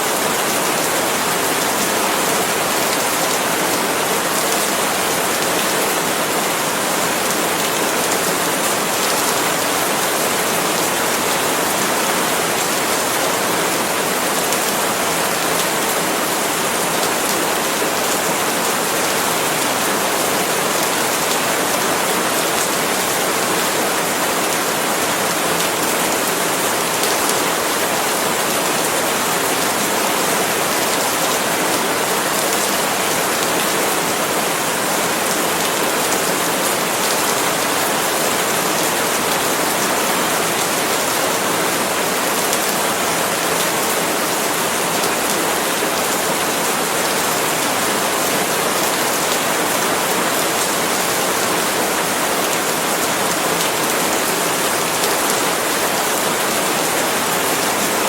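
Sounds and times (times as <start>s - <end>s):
rain falling on palm leaves: 0.0s - 58.0s.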